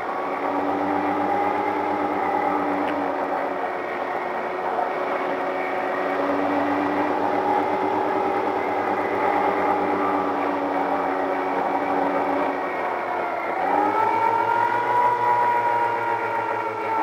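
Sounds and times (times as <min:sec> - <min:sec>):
model plane motors whining: 0:00.0 - 0:17.0.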